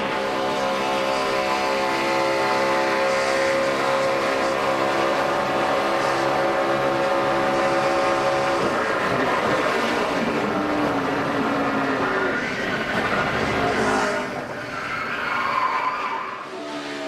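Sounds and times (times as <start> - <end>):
race car engine running: 0.0 - 14.9
rough engine and track noise: 0.0 - 17.0.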